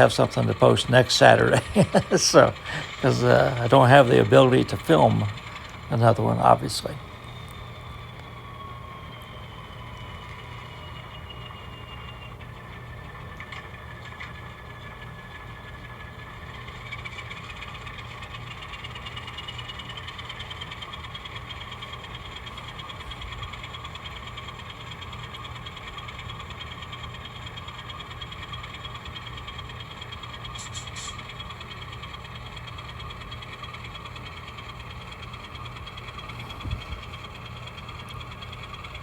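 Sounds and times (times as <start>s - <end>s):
model locomotive humming and whining: 0.0s - 39.0s.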